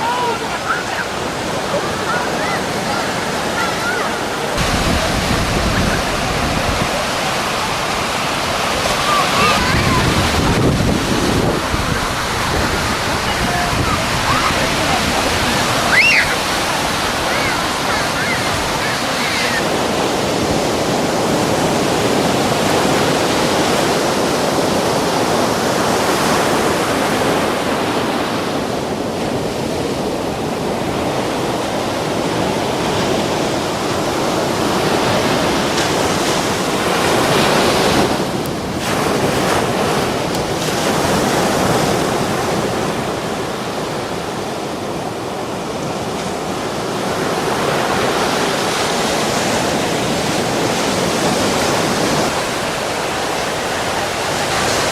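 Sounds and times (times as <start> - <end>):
waves breaking: 0.0 - 54.9.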